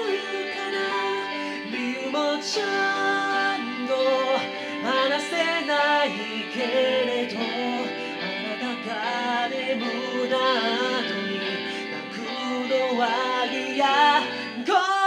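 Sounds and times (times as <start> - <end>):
backing track with guitar: 0.0 - 15.0
person singing: 0.0 - 15.0.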